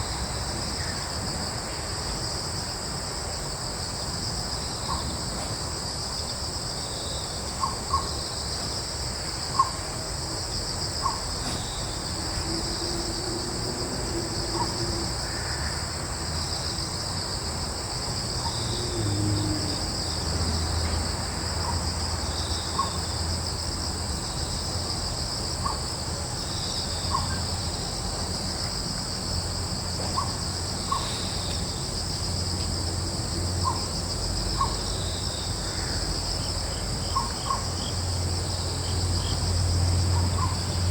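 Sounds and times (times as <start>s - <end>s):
crickets and insects chirring: 0.0s - 40.9s
sharp insect calls: 0.0s - 40.9s.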